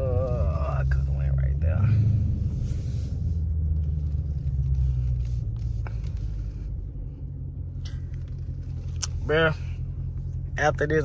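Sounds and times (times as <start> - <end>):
deep engine rumble: 0.0 - 11.0.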